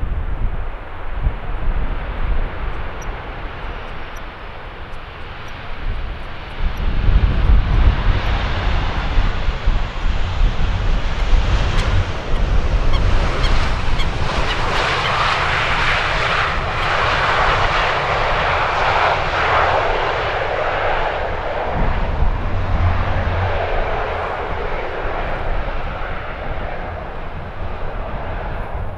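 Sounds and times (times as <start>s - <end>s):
jet airliner engine roar: 0.0s - 28.9s
wind rumbling on microphone: 0.0s - 28.9s.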